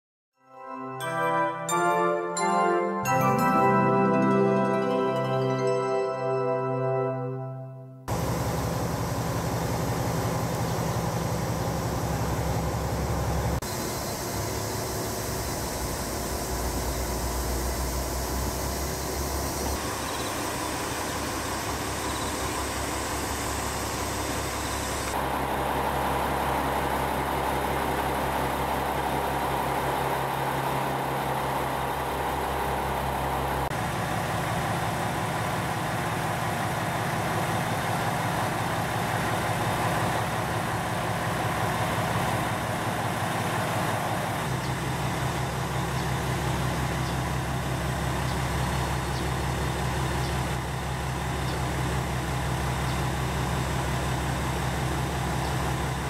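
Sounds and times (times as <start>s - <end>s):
diesel railcars idling: 8.1s - 56.0s.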